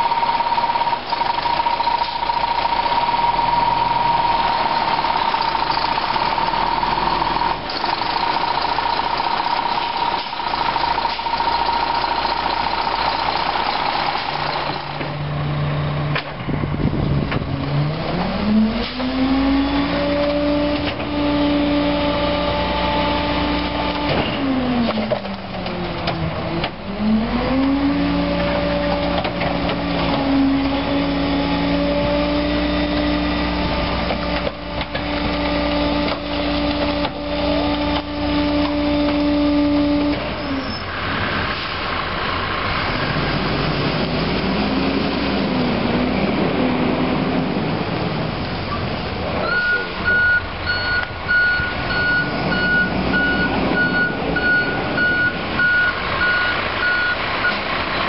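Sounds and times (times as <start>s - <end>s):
garbage truck engine droning: 0.0s - 58.0s.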